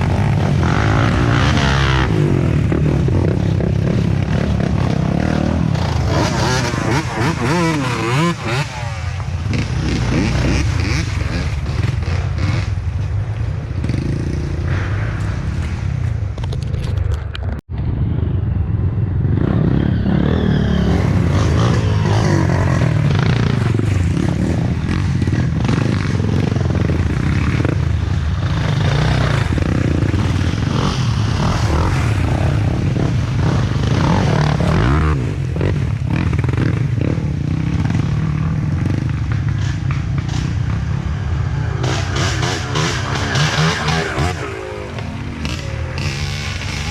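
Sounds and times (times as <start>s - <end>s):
dirt bike engines revving: 0.0s - 16.5s, 18.9s - 46.9s.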